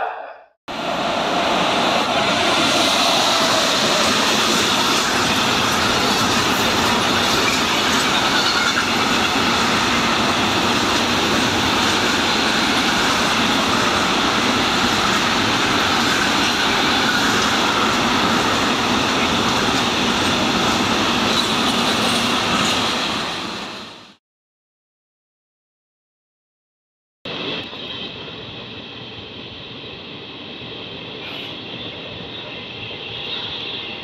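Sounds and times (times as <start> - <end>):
freight train wheels on rail: 0.7 - 24.2, 27.3 - 34.0.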